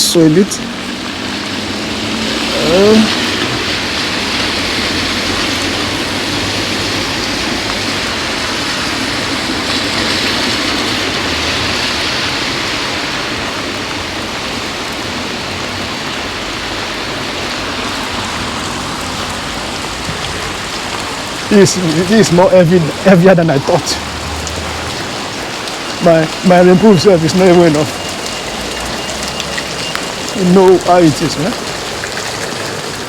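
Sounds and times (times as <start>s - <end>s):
heavy rain falling: 0.0s - 33.0s.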